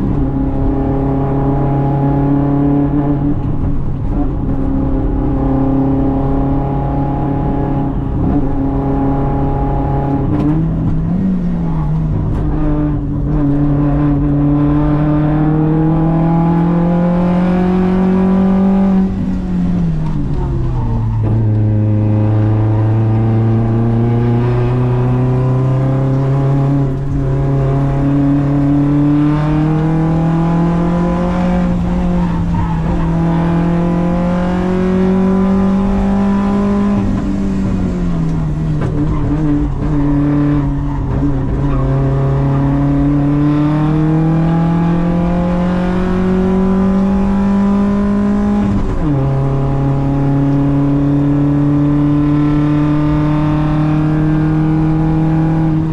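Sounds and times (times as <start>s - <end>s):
race car engine accelerating: 0.0s - 55.9s.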